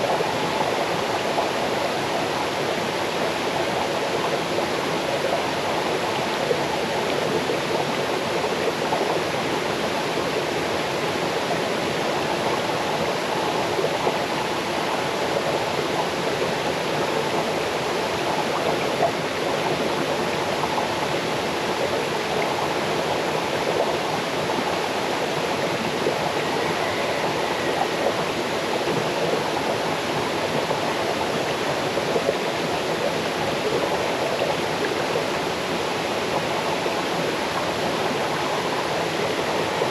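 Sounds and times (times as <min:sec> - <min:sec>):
stream cascading over rocks: 0:00.0 - 0:39.9.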